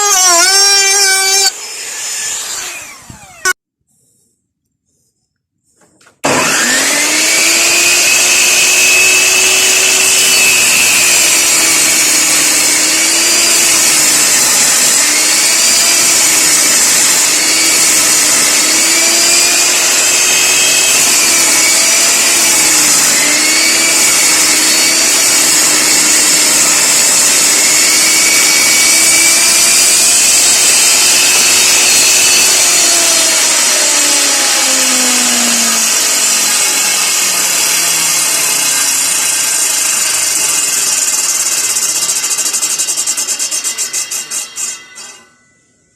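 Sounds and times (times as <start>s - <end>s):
electric power tool cutting wood: 0.0s - 3.6s, 6.2s - 45.2s.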